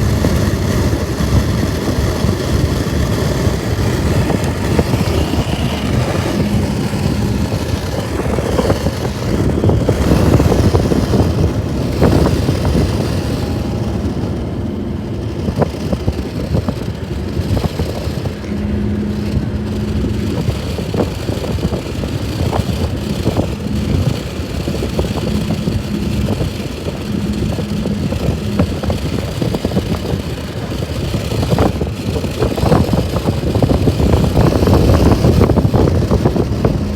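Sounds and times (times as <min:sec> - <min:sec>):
faint hum: 0:00.0 - 0:31.7
vehicle road and engine noise: 0:00.0 - 0:36.9.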